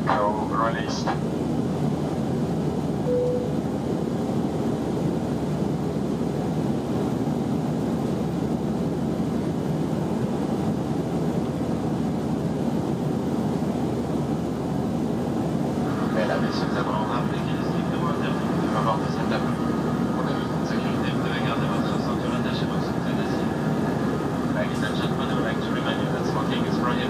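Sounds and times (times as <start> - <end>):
airplane cabin airflow and engine drone: 0.0 - 27.0.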